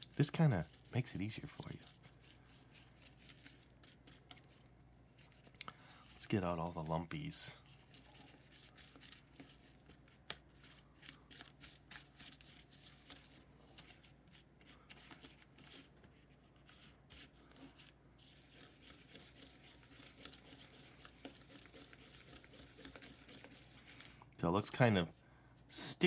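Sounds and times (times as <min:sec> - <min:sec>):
plastic spoon stirring thick dough: 0:00.0 - 0:25.9.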